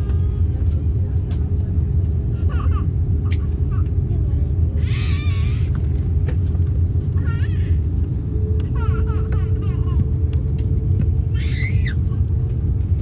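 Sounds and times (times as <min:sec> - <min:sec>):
airliner engine rumble: 0:00.0 - 0:13.0
faint constant hum: 0:00.0 - 0:13.0
passengers' voices: 0:00.0 - 0:13.0.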